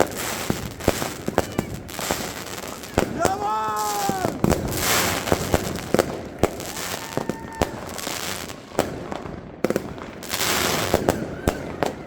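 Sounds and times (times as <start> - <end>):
fireworks hissing crackle: 0.0 - 9.3, 10.0 - 11.6
fireworks bangs: 0.0 - 12.0.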